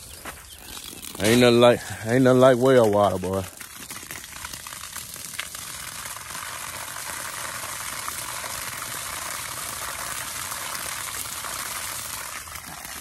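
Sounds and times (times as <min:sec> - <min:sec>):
water gushing from a hose: 0:00.0 - 0:13.0
water splashing on grass: 0:00.4 - 0:13.0.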